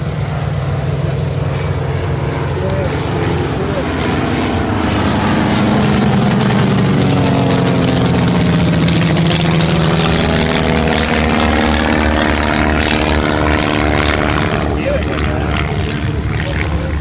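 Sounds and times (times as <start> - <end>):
propeller aircraft flying by: 0.0 - 17.0.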